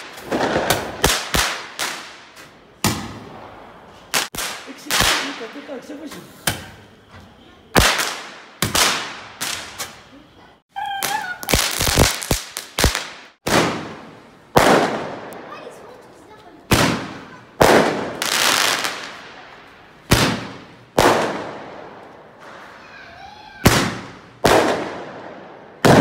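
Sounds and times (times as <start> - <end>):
firecrackers banging: 0.0 - 26.0.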